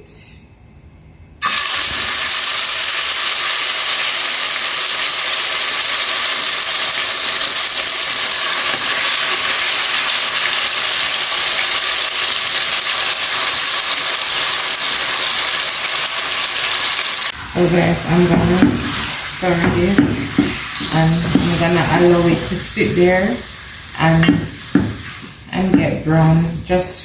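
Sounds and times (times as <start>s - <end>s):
chicken frying in hot oil: 1.4s - 25.5s.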